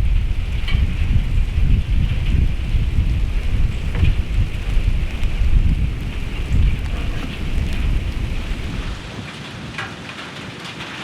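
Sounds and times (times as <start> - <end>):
wind rumbling on microphone: 0.0 - 9.8
rain pattering: 0.0 - 11.0.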